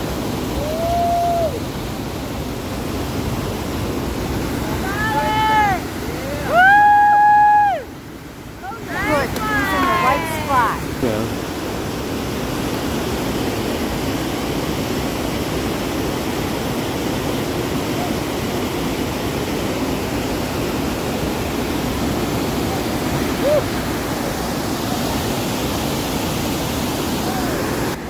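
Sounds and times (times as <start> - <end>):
water rushing over rocks: 0.0 - 28.0.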